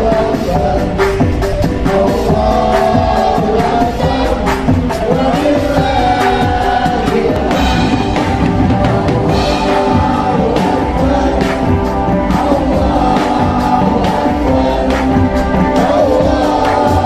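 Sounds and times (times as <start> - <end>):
guitar: 0.0 - 17.0
person singing: 0.0 - 17.0
steady drum beat: 0.0 - 17.0.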